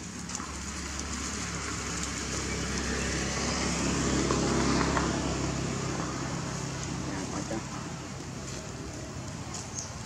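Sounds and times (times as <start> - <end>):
vehicle engine hum: 0.0 - 10.0.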